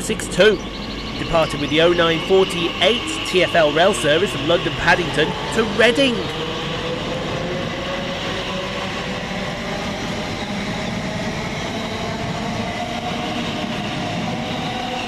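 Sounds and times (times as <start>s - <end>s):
rail and wheel noise: 0.0s - 15.0s
train traction motors whining: 0.0s - 15.0s.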